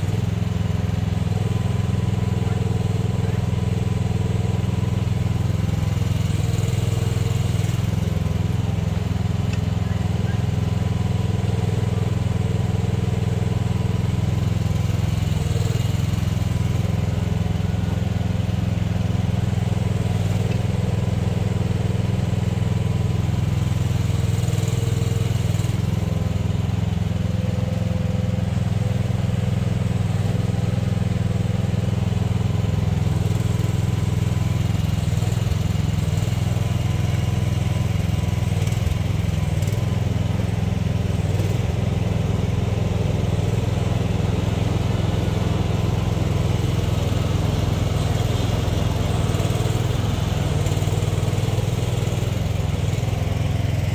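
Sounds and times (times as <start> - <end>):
excavator engine running: 0.0 - 53.9.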